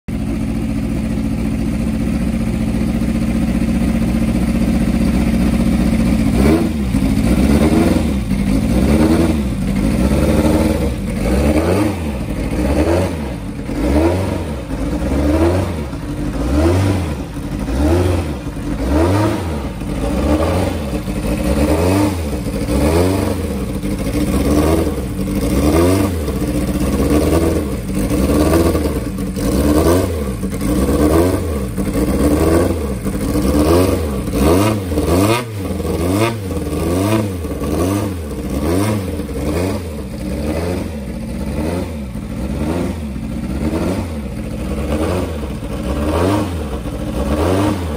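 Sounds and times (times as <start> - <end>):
racing engine idling: 0.1 - 47.9
engine revving on throttle blips: 6.2 - 47.9.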